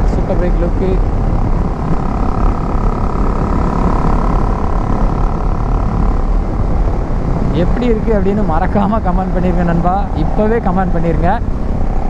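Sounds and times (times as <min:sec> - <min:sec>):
motorcycle engine running: 0:00.0 - 0:10.2
wind rushing over microphone: 0:00.0 - 0:12.0.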